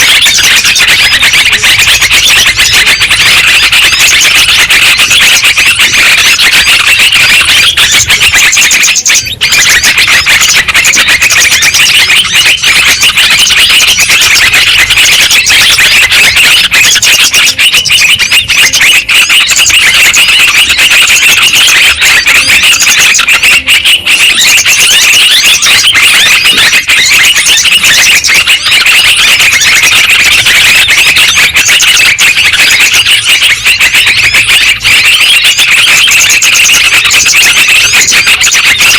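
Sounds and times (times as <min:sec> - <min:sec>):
birds chattering: 0:00.0 - 0:38.9.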